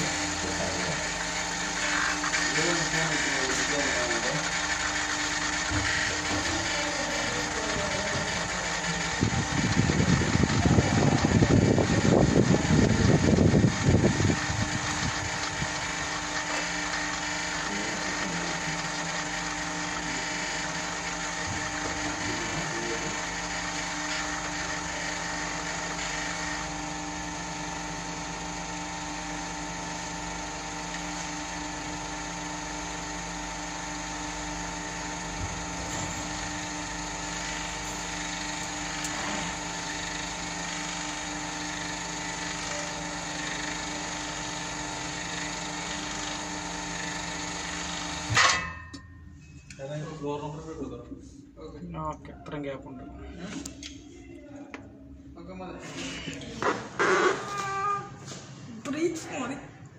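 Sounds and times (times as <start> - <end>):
hoist machine humming: 0.0 - 49.8.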